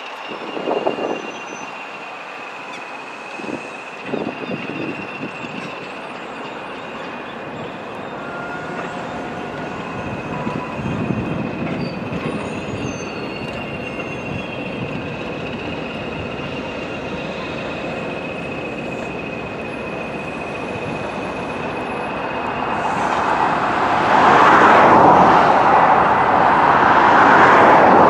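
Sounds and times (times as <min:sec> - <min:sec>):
high-pitched wheel squeal: 0:00.0 - 0:25.8
train wheels rumbling on rails: 0:00.0 - 0:28.0.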